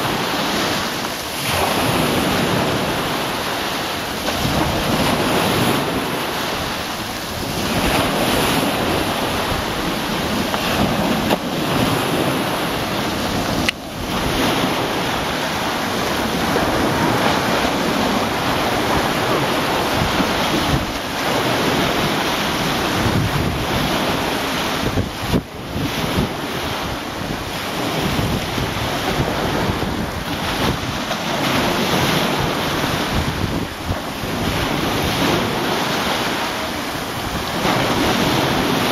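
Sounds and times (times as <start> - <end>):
surf breaking on stony beach: 0.0 - 38.9
wind buffeting microphone: 0.0 - 38.9.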